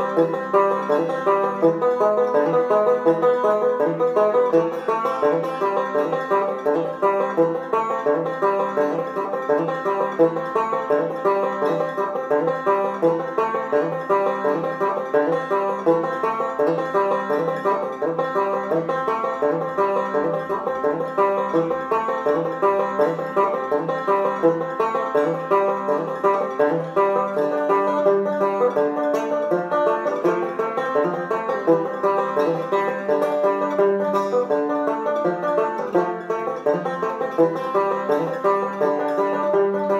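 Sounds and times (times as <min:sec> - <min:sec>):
banjo picking: 0:00.0 - 0:39.9.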